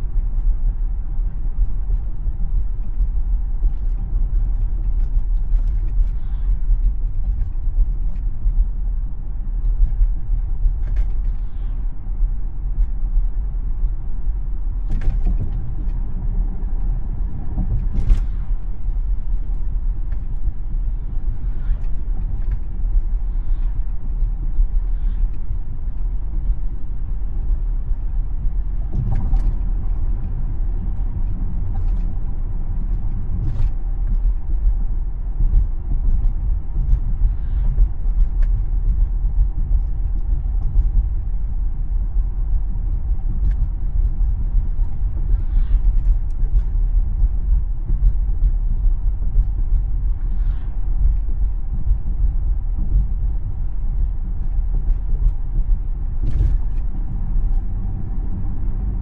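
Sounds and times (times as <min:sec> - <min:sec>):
faint steady hum: 0:00.0 - 0:59.0
road and tyre noise: 0:00.0 - 0:59.0.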